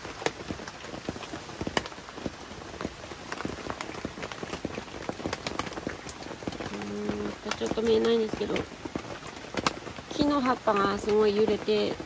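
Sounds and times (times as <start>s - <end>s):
rain pattering on tent fabric: 0.0s - 12.0s.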